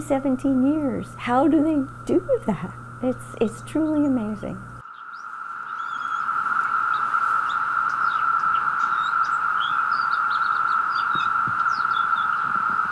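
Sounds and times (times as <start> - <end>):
cicadas droning: 0.0 - 12.9.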